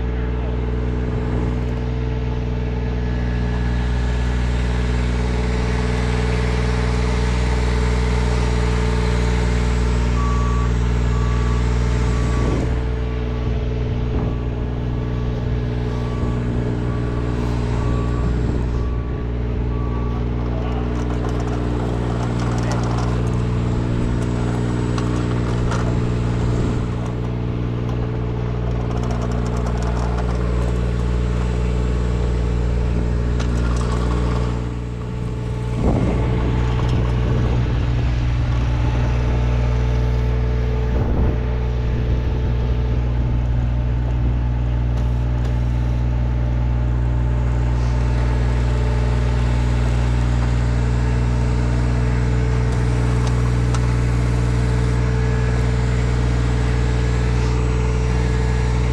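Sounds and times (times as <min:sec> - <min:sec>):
engine idling: 0:00.0 - 0:58.9.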